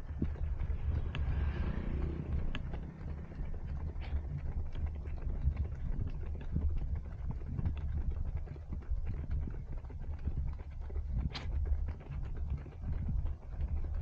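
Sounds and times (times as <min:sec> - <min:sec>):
running footsteps: 0:00.0 - 0:14.0
wind rumble: 0:00.0 - 0:14.0.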